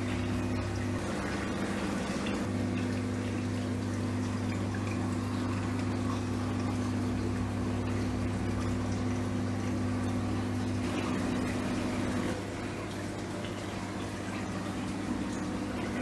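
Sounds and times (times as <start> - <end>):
aquarium pumps humming: 0.0 - 16.0
water running and trickling: 0.0 - 16.0.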